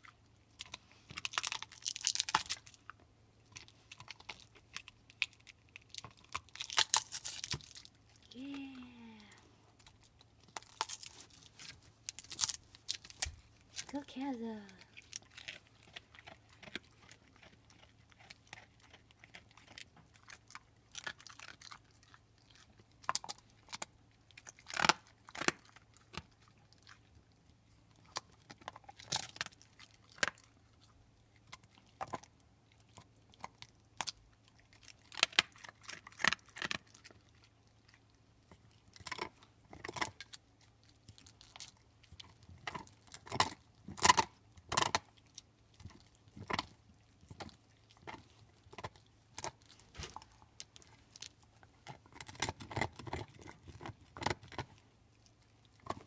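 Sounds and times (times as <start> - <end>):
dog chewing on bone: 0.0 - 8.2, 9.8 - 14.0, 14.8 - 56.0.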